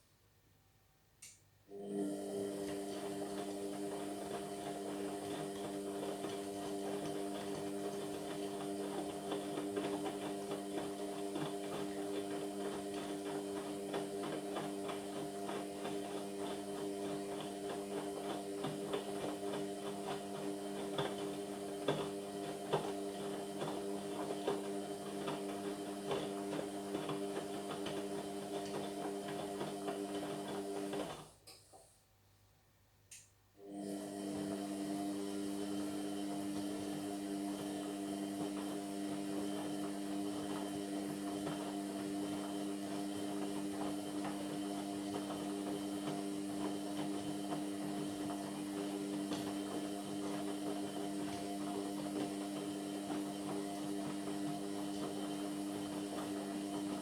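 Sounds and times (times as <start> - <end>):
washing machine motor hum: 1.7 - 31.6, 33.6 - 57.0.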